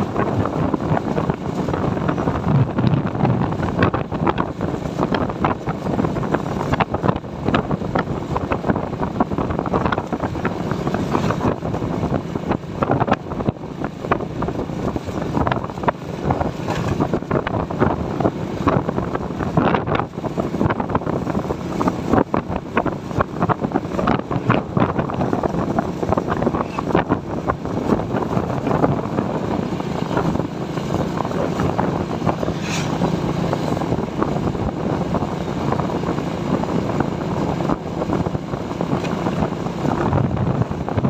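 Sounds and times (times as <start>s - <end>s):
motorcycle engine running: 0.0s - 41.0s
road noise: 0.0s - 41.0s
wind buffeting microphone: 0.0s - 41.0s.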